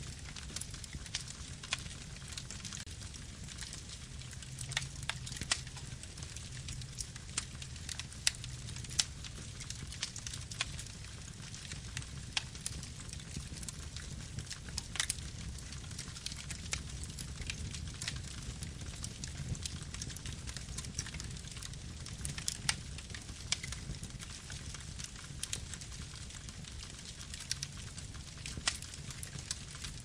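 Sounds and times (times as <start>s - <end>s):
fire crackles and pops: 0.0s - 30.0s
flames rumbling: 0.0s - 30.0s.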